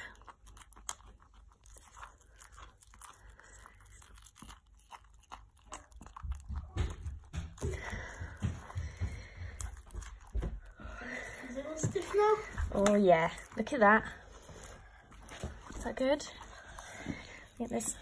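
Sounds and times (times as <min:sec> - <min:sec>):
stick stirring slime: 0:00.0 - 0:18.0.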